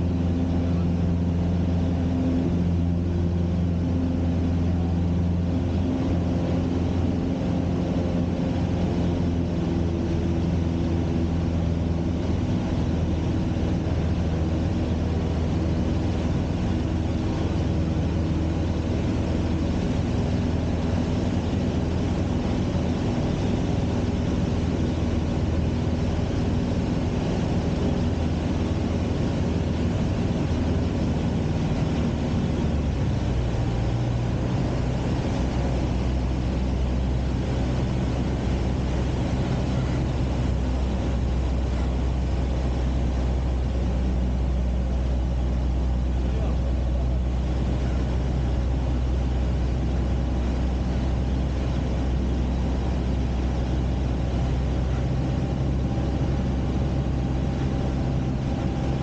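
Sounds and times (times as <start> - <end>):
aircraft engine and propeller droning: 0.0 - 59.0.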